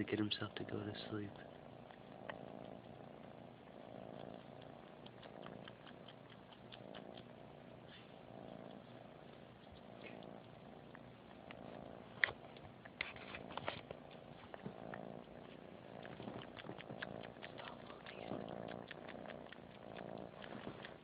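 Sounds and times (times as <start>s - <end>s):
kitten purring softly: 0.0s - 21.0s.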